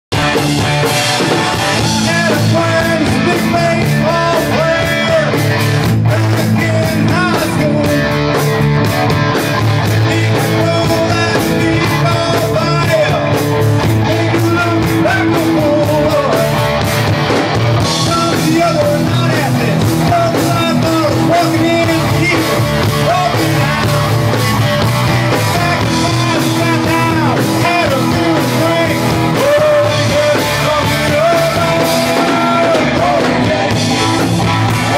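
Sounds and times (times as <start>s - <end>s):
live rock band playing: 0.1s - 34.9s.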